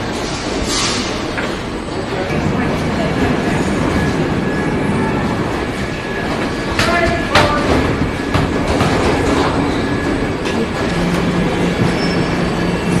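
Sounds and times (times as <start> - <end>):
assembly line machinery rumbling: 0.0 - 13.0.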